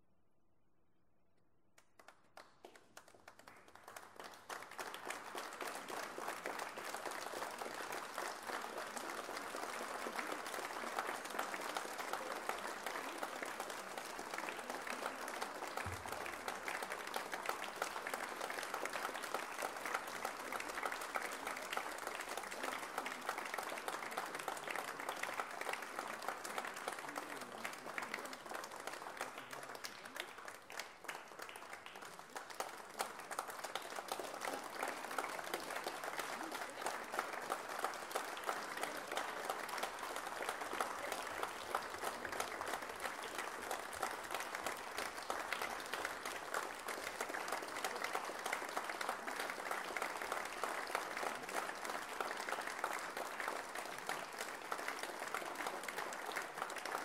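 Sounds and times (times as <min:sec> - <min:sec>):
audience applauding: 0:01.9 - 0:57.0.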